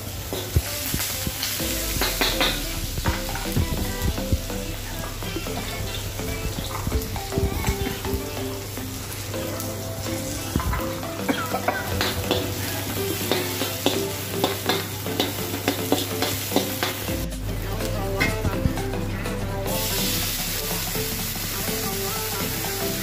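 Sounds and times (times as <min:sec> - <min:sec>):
vegetables sizzling in wok: 0:00.0 - 0:17.3, 0:19.7 - 0:23.0.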